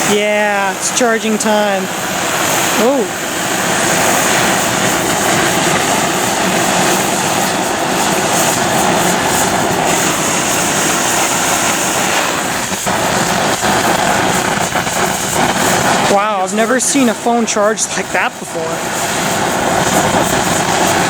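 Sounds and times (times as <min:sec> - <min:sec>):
loud steady rushing noise: 0:00.0 - 0:21.0.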